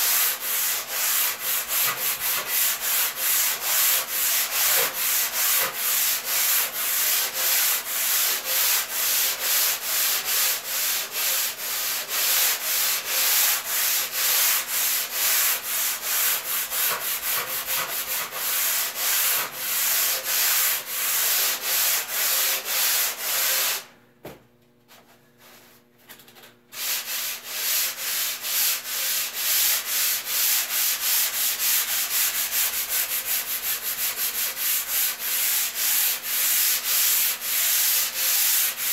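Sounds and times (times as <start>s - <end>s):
sanding block rasping on surfboard: 0.0s - 23.8s, 26.8s - 38.9s.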